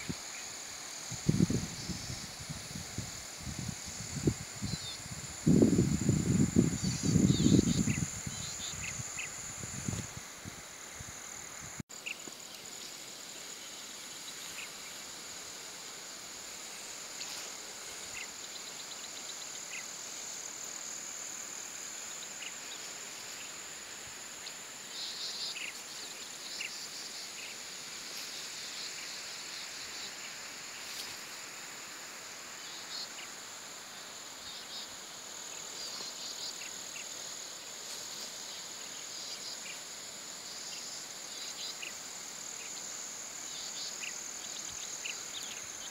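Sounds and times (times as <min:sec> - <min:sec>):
insects droning: 0:00.0 - 0:45.9
short insect chirps: 0:00.0 - 0:45.9.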